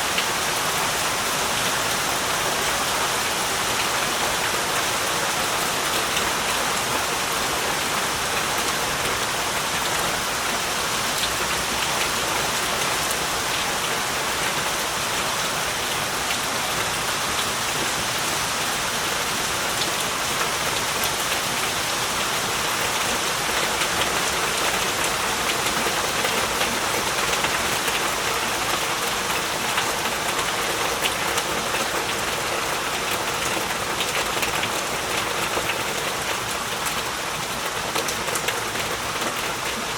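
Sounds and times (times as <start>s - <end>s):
raindrops pattering on surfaces: 0.1s - 39.9s.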